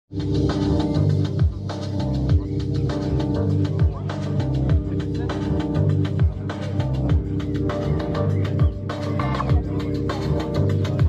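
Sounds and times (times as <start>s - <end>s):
music with steady beat: 0.1s - 11.0s
sliding bass line: 0.1s - 11.0s.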